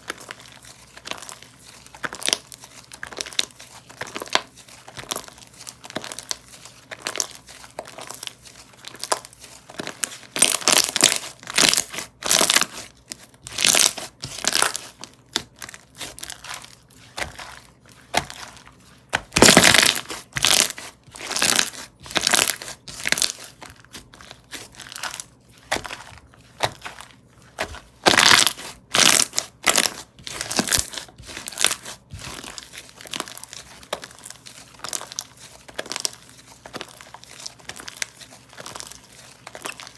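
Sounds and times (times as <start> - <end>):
hands squishing slime: 0.0 - 39.9.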